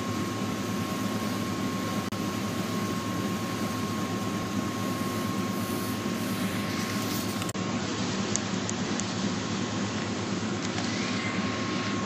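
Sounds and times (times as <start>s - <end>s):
fan hum and hiss: 0.0s - 12.0s
high whine: 0.0s - 12.0s.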